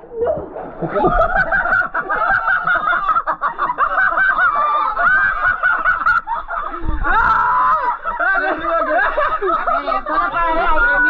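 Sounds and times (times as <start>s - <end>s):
people laughing: 0.6s - 11.0s
people squealing: 0.9s - 11.0s
people shrieking: 1.0s - 11.0s.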